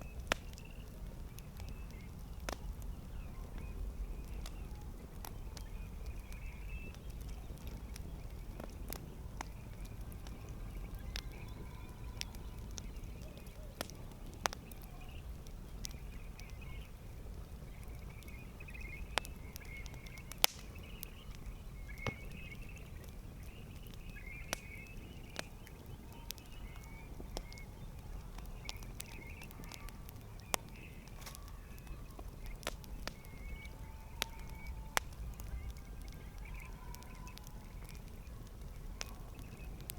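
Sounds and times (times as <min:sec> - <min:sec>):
campfire pops and snaps: 0:00.0 - 0:39.9
low rumble of burning fire: 0:00.0 - 0:39.9.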